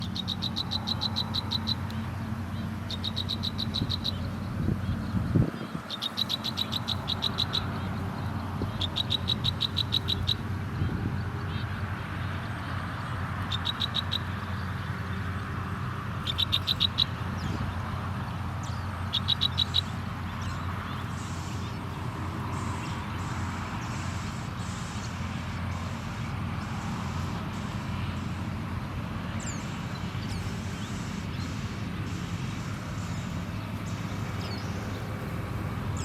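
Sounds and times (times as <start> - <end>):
young birds ticking calls: 0.0 - 36.0.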